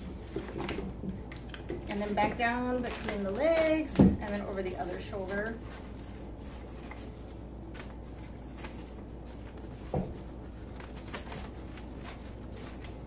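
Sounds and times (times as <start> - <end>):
cling wrap crackling: 0.0 - 13.0.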